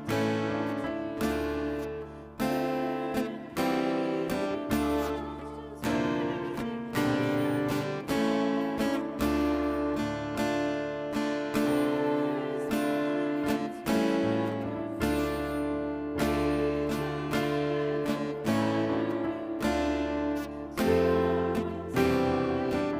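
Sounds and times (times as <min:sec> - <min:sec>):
acoustic guitar strumming chords: 0:00.0 - 0:22.9.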